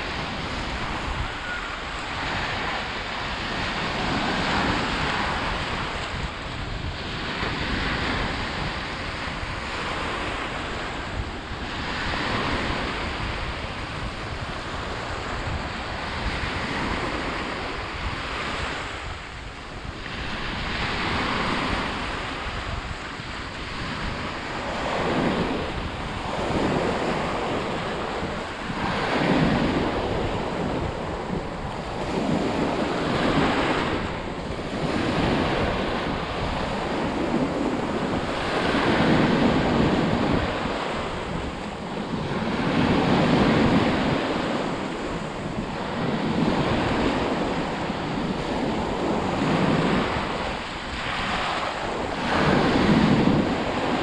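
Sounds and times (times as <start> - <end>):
sea waves washing onto shore: 0.0 - 54.0
wind rumbling on microphone: 0.0 - 54.0.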